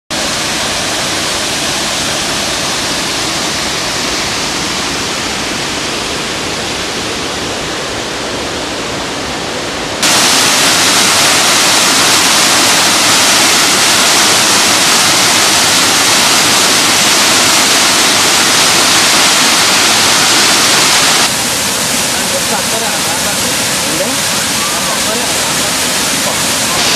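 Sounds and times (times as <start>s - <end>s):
waterfall rushing: 0.1s - 26.9s.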